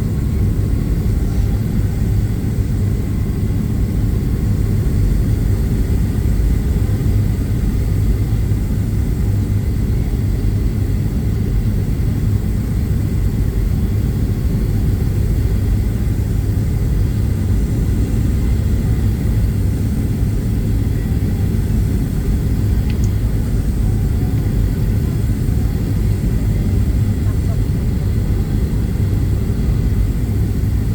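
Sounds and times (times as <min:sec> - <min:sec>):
airliner cabin rumble: 0:00.0 - 0:30.9.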